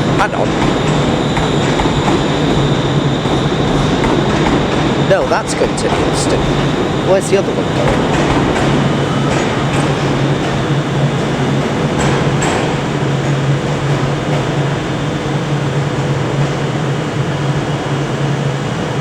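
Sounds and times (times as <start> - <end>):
trains droning and humming: 0.0 - 19.0.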